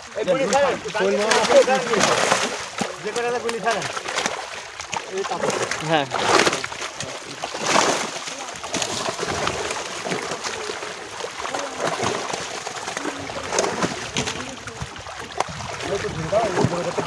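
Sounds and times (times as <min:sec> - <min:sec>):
fish thrashing in water: 0:00.0 - 0:17.0.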